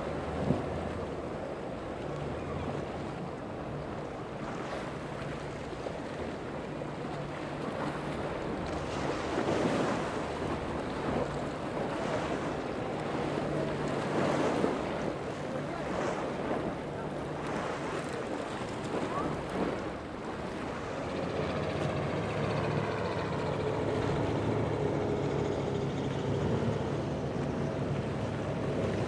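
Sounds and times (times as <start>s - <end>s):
boat hull rushing through waves: 0.0s - 29.0s
outboard motors humming: 0.0s - 29.0s.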